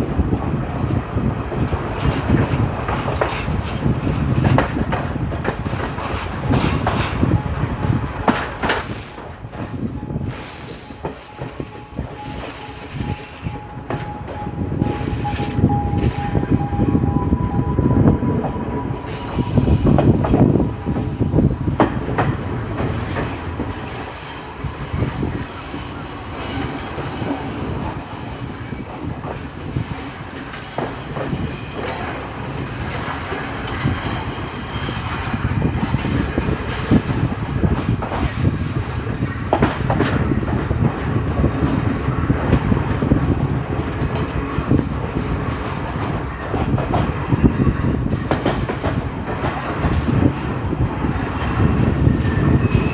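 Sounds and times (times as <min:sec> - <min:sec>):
rail clicks: 0:00.0 - 0:52.9
train carriage rumble: 0:00.0 - 0:52.9
wheel squeals: 0:06.5 - 0:50.1, 0:51.0 - 0:52.9.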